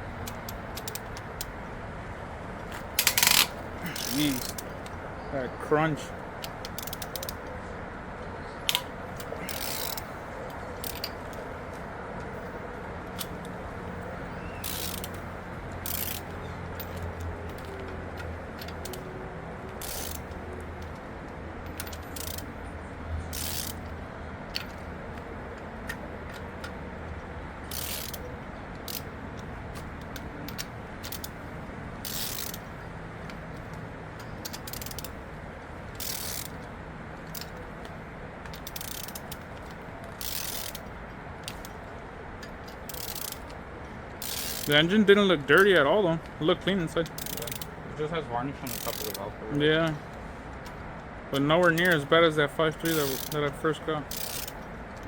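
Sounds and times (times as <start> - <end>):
socket ratchet clicking: 0.2 - 1.6, 2.6 - 5.0, 6.4 - 7.6, 8.6 - 11.5, 13.0 - 13.6, 14.4 - 22.6, 23.3 - 44.9, 45.5 - 47.8, 48.6 - 49.2, 51.4 - 52.1, 52.8 - 55.0.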